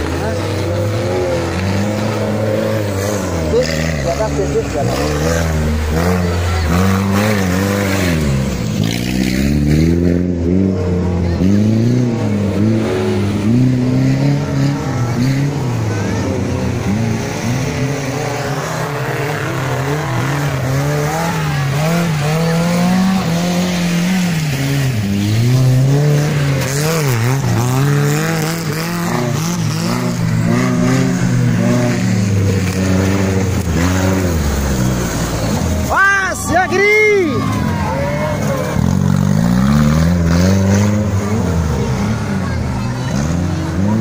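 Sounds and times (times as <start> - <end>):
off-road engines revving: 0.0 - 44.0.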